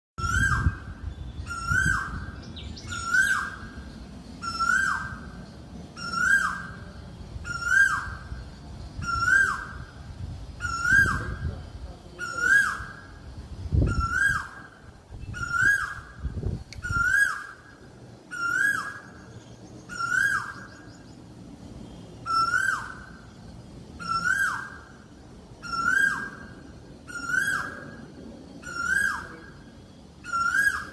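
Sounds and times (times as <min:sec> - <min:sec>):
asian koel calling: 0:00.2 - 0:30.9.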